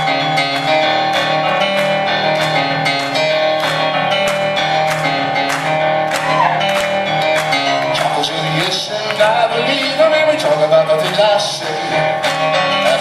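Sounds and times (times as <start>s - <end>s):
guitar strumming: 0.0s - 13.0s
live rock band playing: 0.0s - 13.0s.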